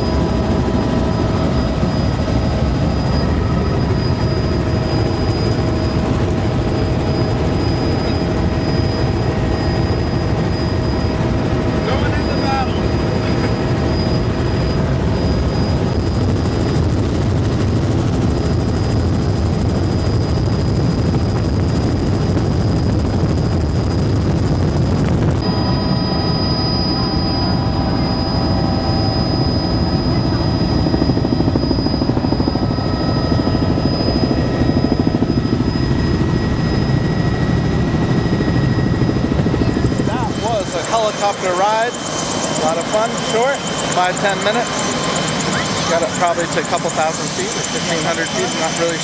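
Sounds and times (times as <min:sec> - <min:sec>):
helicopter rotor and engine drone: 0:00.0 - 0:49.0
high whine: 0:00.0 - 0:49.0.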